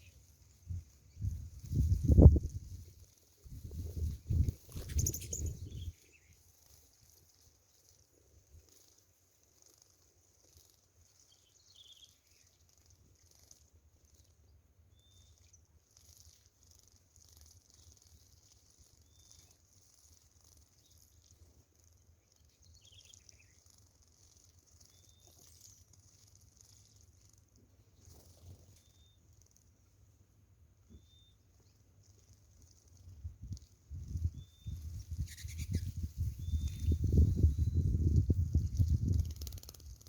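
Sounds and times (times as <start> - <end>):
faint bird chirps: 0.0 - 9.0, 9.6 - 30.0, 30.8 - 40.0.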